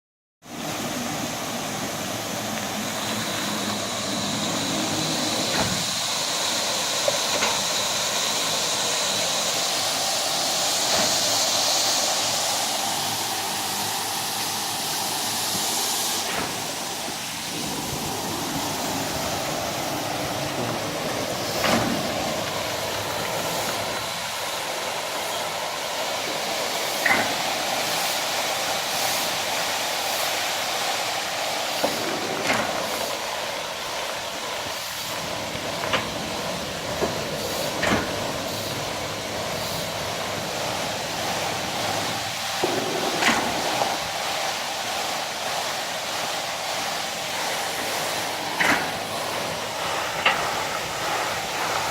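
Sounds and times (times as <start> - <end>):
carpet-washing machinery hissing: 0.4 - 51.9.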